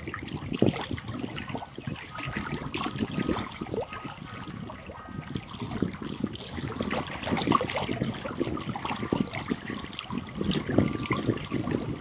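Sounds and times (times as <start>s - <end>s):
waves lapping on stony shore: 0.0s - 12.0s.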